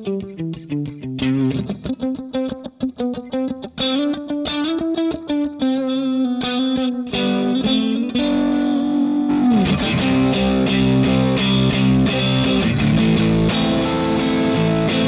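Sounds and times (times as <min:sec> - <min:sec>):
electric guitar with effects: 0:00.0 - 0:15.0.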